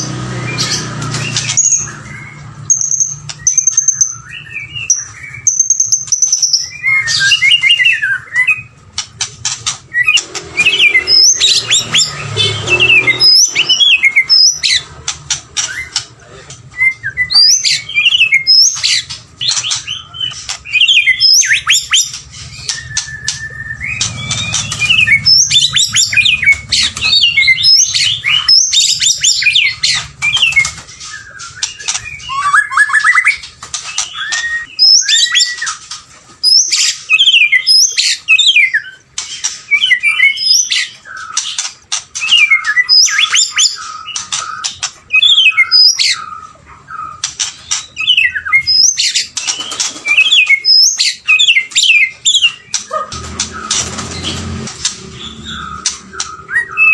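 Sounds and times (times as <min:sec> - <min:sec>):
bird singing whistling song: 0:00.5 - 0:08.7, 0:16.7 - 0:41.6, 0:42.2 - 0:47.2, 0:47.9 - 0:53.8, 0:55.2 - 0:56.9.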